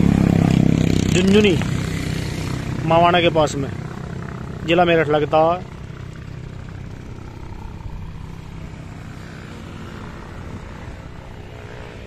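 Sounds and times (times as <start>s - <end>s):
tractor engine idling: 1.4s - 11.2s.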